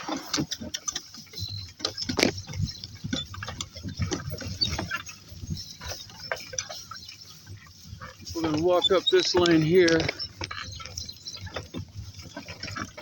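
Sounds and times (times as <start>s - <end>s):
cart rattling and knocking: 0.0s - 13.0s.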